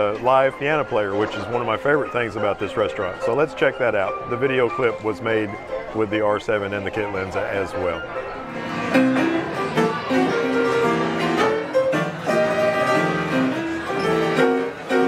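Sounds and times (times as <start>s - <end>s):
upright piano tune: 0.0s - 15.0s.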